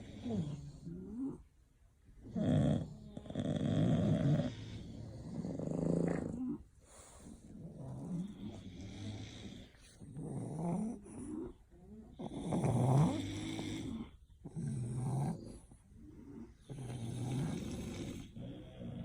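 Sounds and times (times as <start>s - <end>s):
dog snoring: 0.0s - 1.5s, 2.2s - 19.0s.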